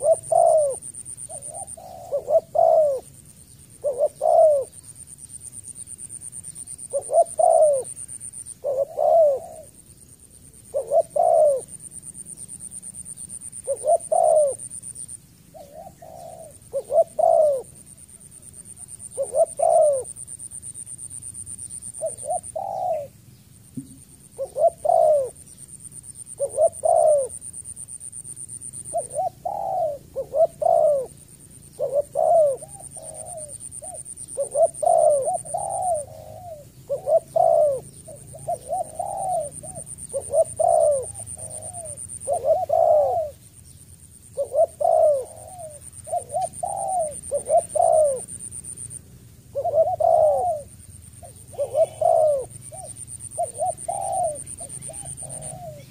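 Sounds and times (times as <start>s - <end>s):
dove cooing: 0.0s - 23.2s, 23.8s - 43.5s, 44.1s - 55.9s.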